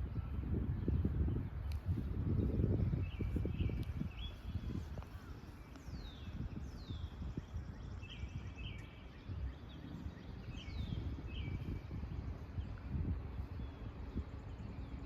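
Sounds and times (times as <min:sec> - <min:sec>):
bird chirps: 0:02.3 - 0:15.0.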